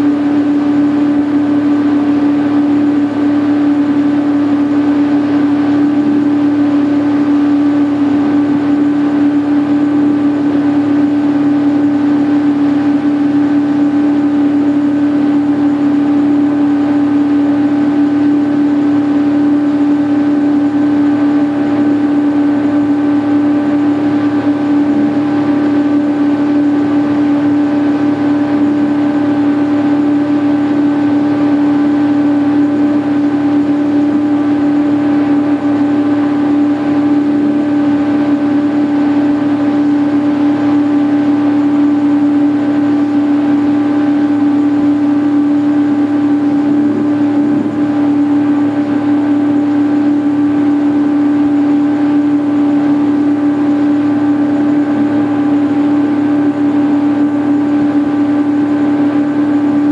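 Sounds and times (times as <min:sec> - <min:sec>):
motorboat engine drone: 0:00.0 - 0:59.9.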